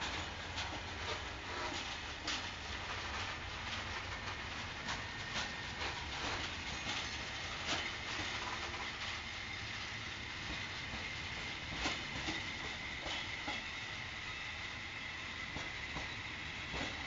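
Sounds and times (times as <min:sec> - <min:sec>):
train rumble: 0:00.0 - 0:17.0
train wheels clicking over rail joints: 0:00.0 - 0:17.0.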